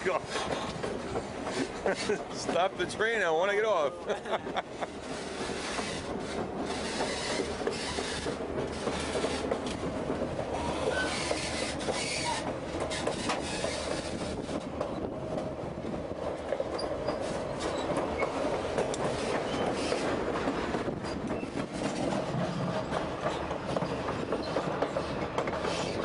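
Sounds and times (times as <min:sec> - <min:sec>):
steel wheels rumbling on rail: 0:00.0 - 0:26.0
wheels clicking over rail joints: 0:00.0 - 0:26.0.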